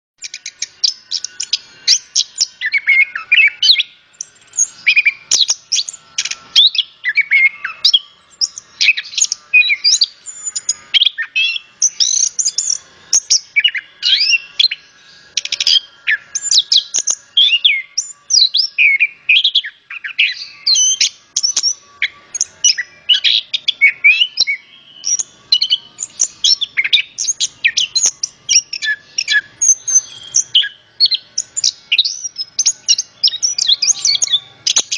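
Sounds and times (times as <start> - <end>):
thrush singing: 0.3 - 34.9.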